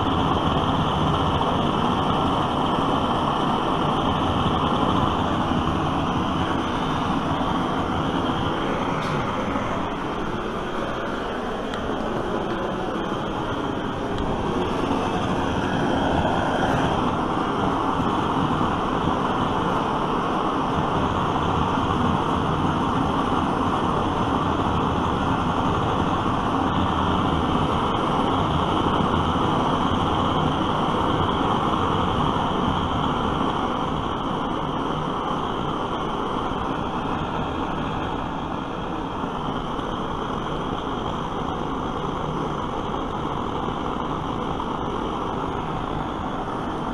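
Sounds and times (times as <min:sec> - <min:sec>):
torch flame rushing: 0:00.0 - 0:46.9.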